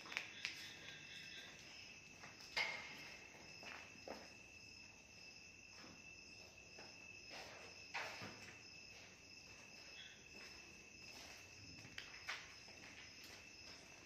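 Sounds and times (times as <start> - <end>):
crickets chirping: 0.0 - 14.0
soft footstep scuffs: 0.0 - 14.0.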